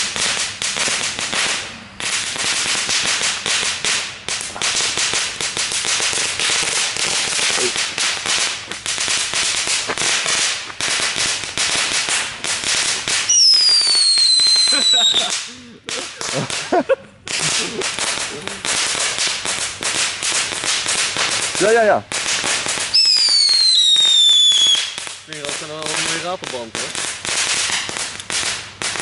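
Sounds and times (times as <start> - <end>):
firework crackling: 0.0 - 29.0.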